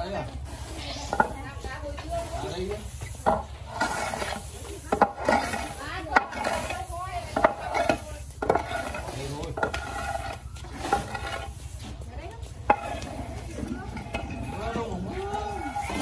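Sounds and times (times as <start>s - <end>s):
utensil stirring food in pot: 0.4s - 16.0s.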